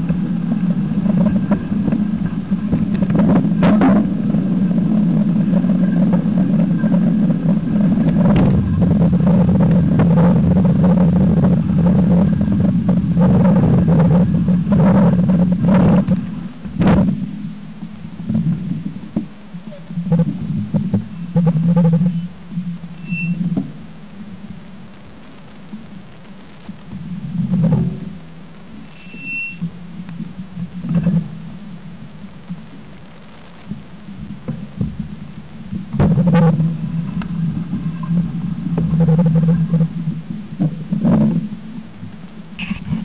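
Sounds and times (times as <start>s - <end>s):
bike rumble and rattle: 0.0s - 43.0s.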